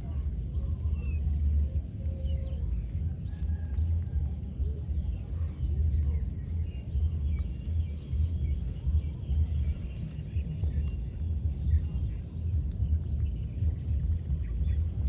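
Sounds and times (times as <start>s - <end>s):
faint bird chirps: 0.0s - 15.0s
wind rumble on microphone: 0.0s - 15.0s.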